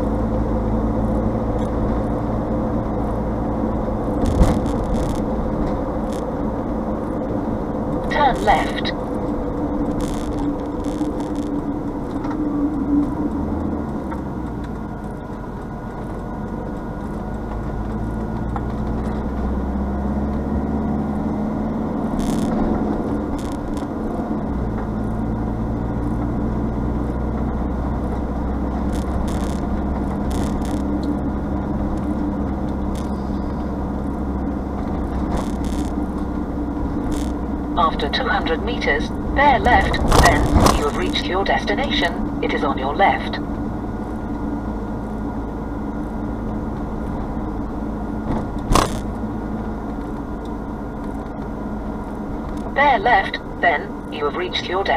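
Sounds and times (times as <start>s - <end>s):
vehicle engine and road drone: 0.0s - 54.9s.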